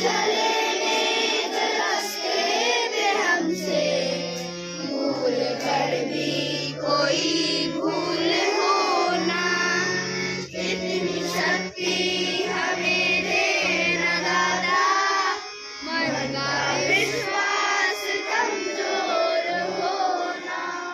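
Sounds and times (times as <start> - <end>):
children singing: 0.0 - 20.9
instrumental accompaniment: 0.0 - 20.9.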